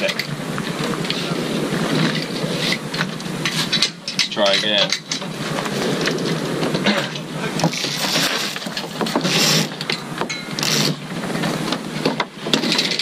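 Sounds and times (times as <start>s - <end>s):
rope rasping through pulleys: 1.0s - 13.0s.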